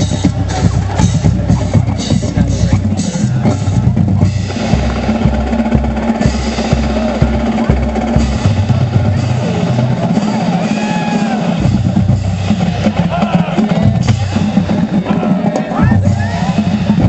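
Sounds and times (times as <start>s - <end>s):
bass drums: 0.0s - 17.0s
snare drums: 0.0s - 17.0s.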